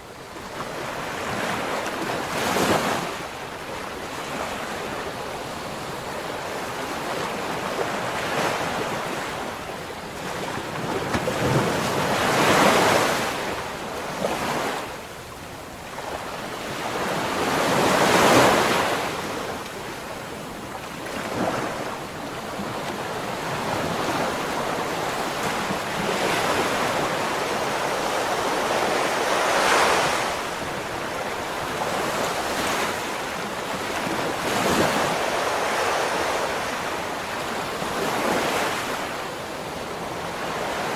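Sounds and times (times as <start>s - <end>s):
waves breaking on shore: 0.4s - 40.9s.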